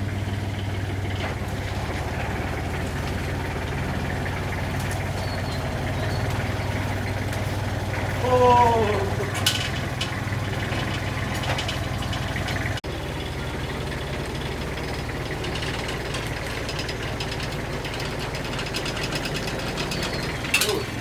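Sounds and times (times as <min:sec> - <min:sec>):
engine running with low drone: 0:00.0 - 0:21.0.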